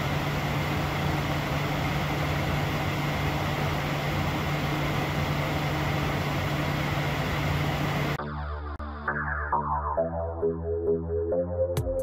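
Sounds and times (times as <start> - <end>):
jet cockpit noise: 0.0 - 12.0.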